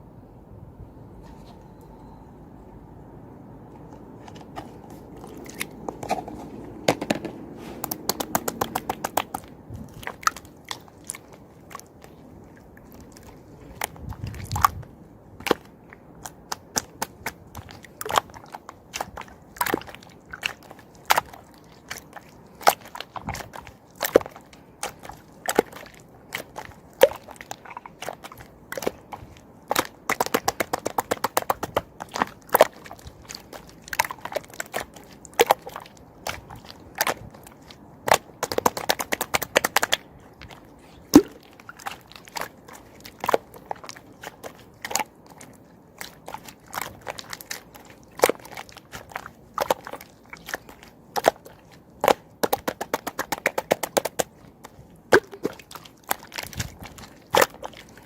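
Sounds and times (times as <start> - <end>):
slime popping: 4.3 - 12.2, 16.3 - 58.0.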